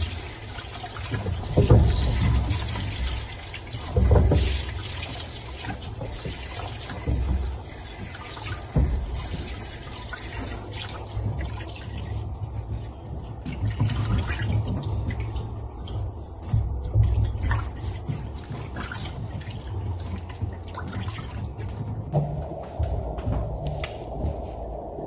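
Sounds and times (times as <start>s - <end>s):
water running and trickling: 0.0s - 25.0s.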